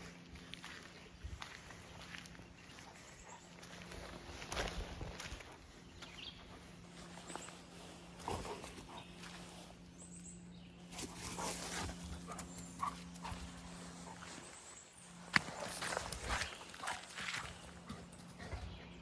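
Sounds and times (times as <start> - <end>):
footsteps and scuffs: 0.0 - 9.8, 10.9 - 18.6
faint low hum: 0.0 - 19.0.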